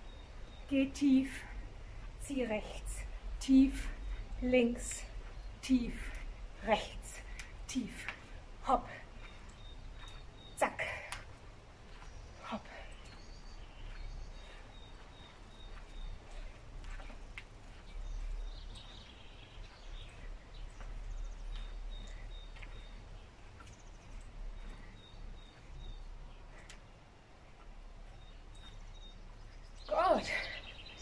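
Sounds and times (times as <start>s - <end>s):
small bird chirping: 0.0s - 1.7s, 2.6s - 31.0s.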